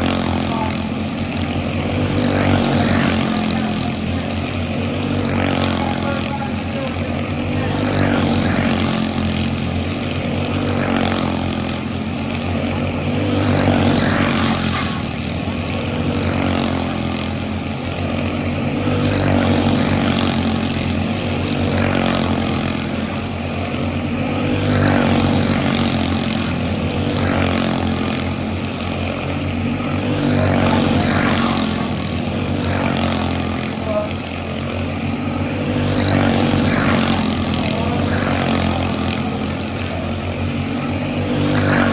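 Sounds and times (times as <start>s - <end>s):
race car engine running hard: 0.0s - 41.9s.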